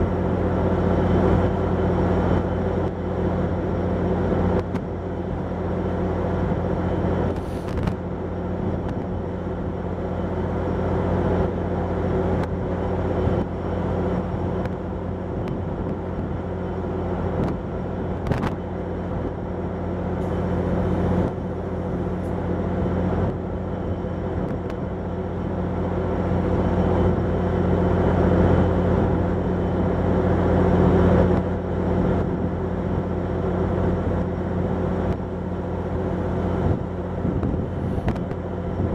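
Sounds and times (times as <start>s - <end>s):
train equipment humming: 0.0s - 38.9s.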